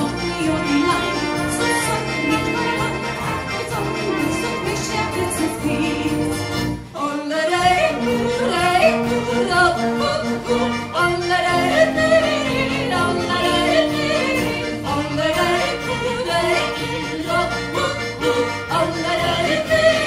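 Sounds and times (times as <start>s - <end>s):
brass band playing polka: 0.0s - 20.0s.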